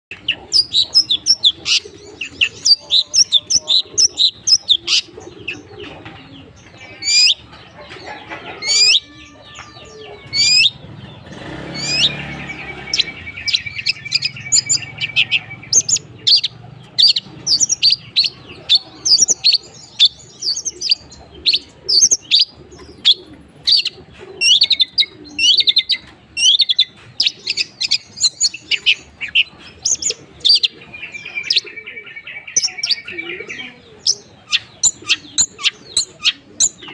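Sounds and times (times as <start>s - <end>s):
bird singing varied song: 0.1s - 36.9s
sweeping bird calls: 0.1s - 36.9s.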